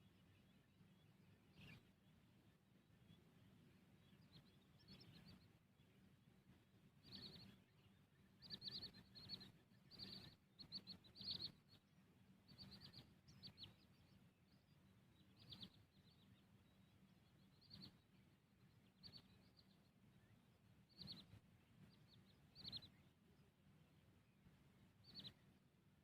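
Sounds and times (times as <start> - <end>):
birds chirping: 0.0 - 26.0
soft background hum: 0.0 - 26.0.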